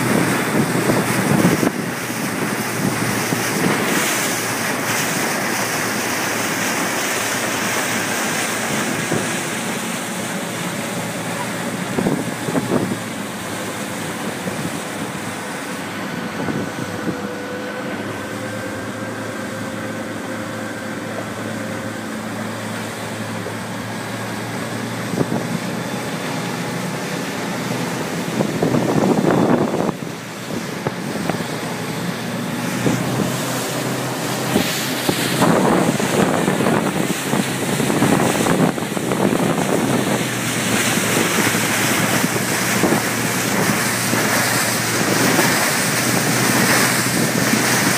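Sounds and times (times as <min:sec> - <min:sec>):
wind buffeting microphone: 0:00.0 - 0:17.3, 0:24.5 - 0:47.9
water rushing along hulls: 0:00.0 - 0:47.9.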